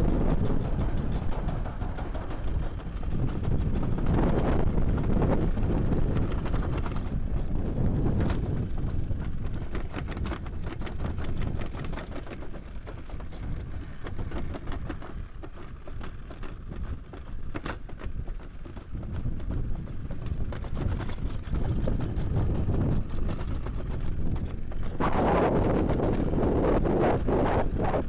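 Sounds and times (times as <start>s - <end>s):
toboggan rumbling in steel trough: 0.0s - 28.0s.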